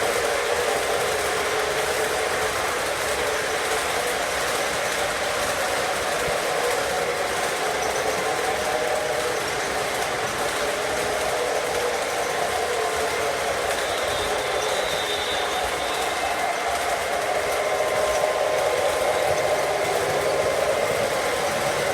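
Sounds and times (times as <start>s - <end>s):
freight train rumbling past: 0.0s - 21.9s
wheels rattling on rails: 0.0s - 21.9s.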